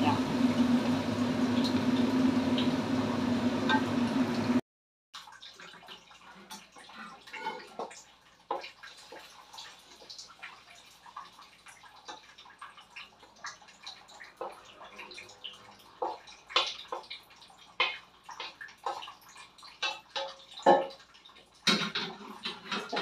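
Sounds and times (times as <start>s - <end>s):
vegetables stir-frying in a wok: 0.0s - 4.6s, 5.3s - 23.0s.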